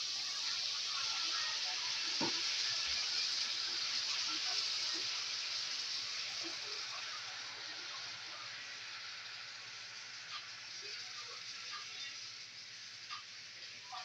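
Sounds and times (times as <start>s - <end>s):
water sizzling in hot skillet: 0.0s - 14.0s.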